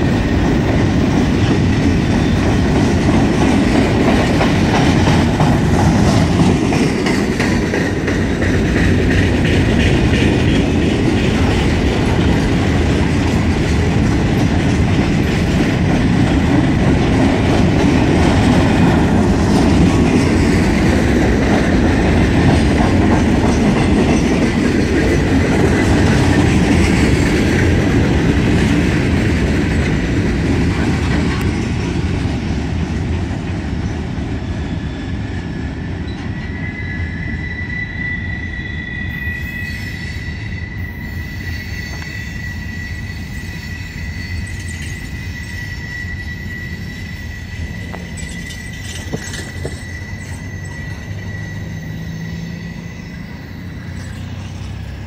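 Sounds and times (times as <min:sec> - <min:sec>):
freight train wheels clattering: 0:00.0 - 0:37.4, 0:39.8 - 0:55.0
high wheel squeal: 0:00.0 - 0:55.0.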